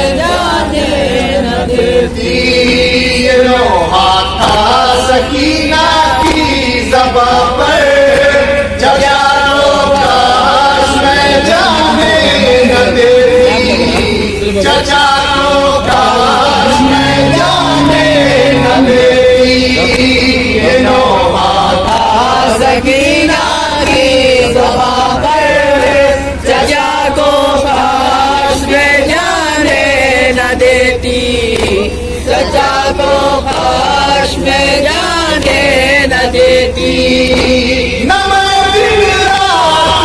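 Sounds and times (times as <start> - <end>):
man chanting through loudspeaker: 0.0 - 40.0
men chanting: 0.0 - 40.0.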